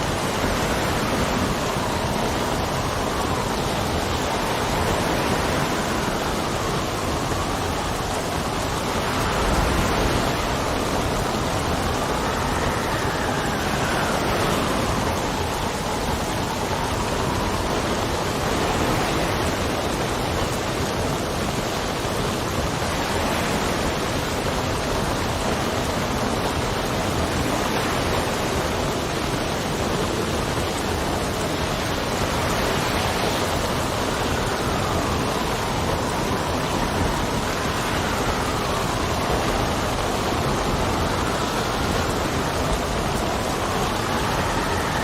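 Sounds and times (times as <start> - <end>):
steady rain: 0.0 - 45.0
wind blowing in gusts: 0.0 - 45.0.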